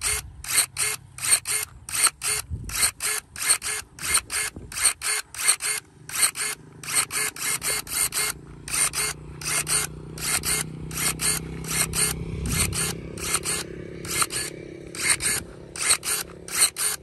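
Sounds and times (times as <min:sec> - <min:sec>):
electric pruning shears snapping: 0:00.0 - 0:17.0.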